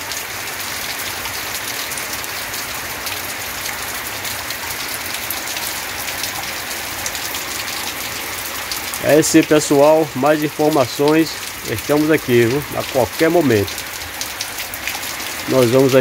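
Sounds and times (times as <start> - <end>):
heavy rain on roofs and street: 0.0 - 16.0.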